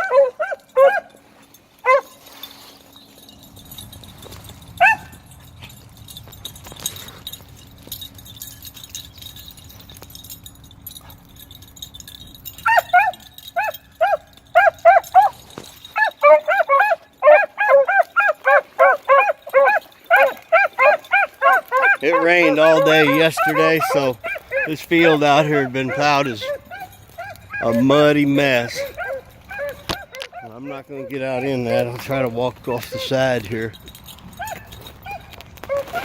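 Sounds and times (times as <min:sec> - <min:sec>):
beagles baying: 0:00.0 - 0:36.0.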